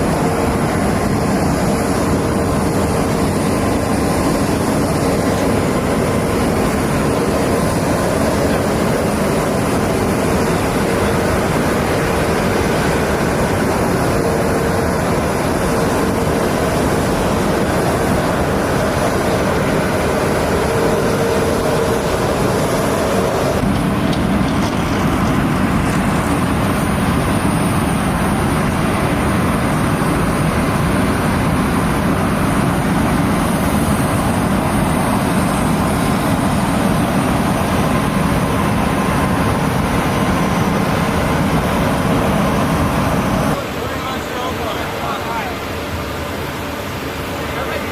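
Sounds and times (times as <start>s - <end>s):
heavy machinery rumbling: 0.0s - 47.9s.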